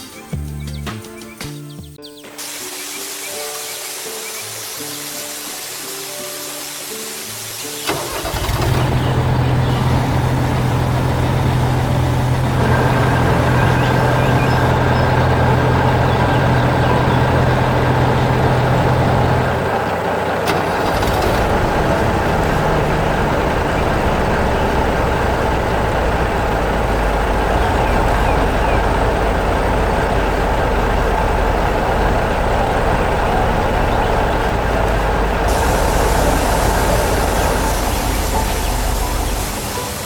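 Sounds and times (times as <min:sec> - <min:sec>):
different engine droning: 0:07.8 - 0:40.0
heavy truck engine droning: 0:07.8 - 0:40.0.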